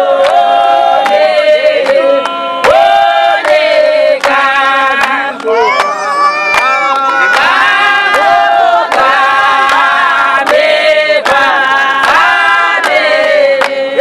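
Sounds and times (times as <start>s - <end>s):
women's choir singing: 0.0s - 14.0s
hands clapping: 0.2s - 14.0s.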